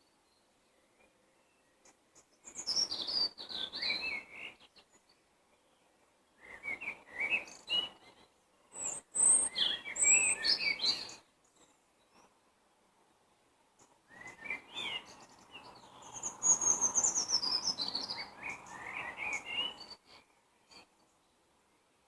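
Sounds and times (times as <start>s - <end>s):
songbird chirps and whistles: 0.2s - 12.3s, 14.0s - 21.3s.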